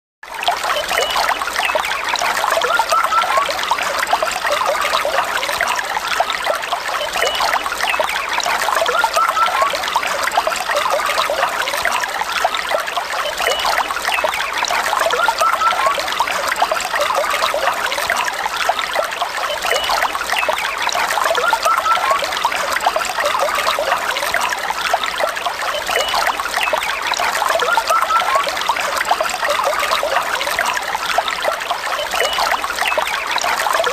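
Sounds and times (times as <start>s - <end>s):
stream trickling over stones: 0.3s - 33.9s.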